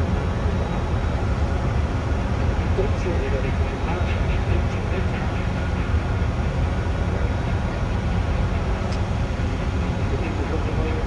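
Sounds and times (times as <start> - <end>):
heavy machinery rumbling: 0.0 - 11.0.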